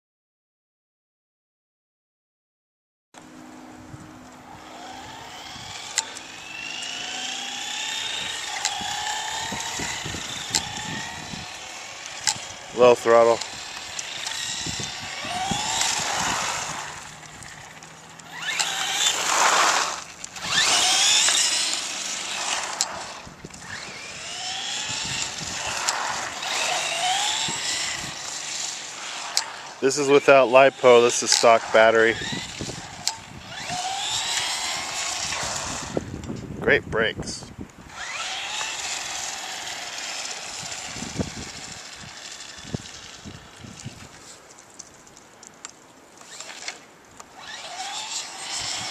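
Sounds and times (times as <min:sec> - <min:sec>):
electric motor whining: 0:03.2 - 0:36.5, 0:37.8 - 0:44.4, 0:46.2 - 0:48.9.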